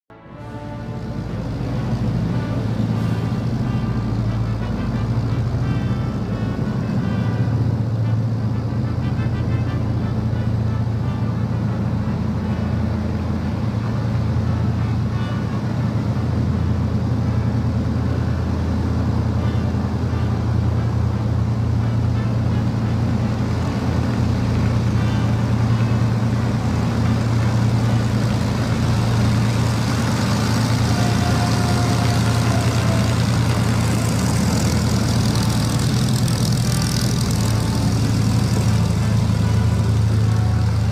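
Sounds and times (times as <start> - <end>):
propeller aircraft engines droning: 0.1 - 40.9.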